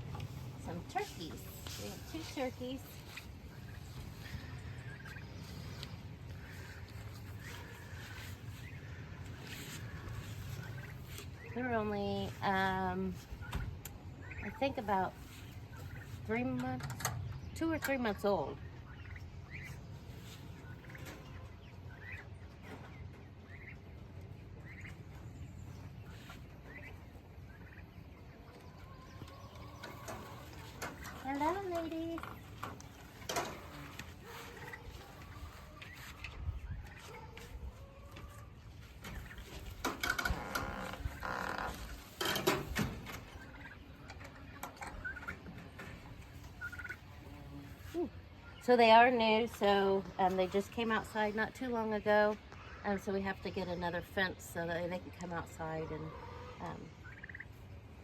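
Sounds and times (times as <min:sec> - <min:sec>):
poultry calling: 0:00.0 - 0:16.4, 0:17.9 - 0:49.8, 0:55.4 - 0:57.8
young turkeys peeping: 0:00.0 - 0:58.0.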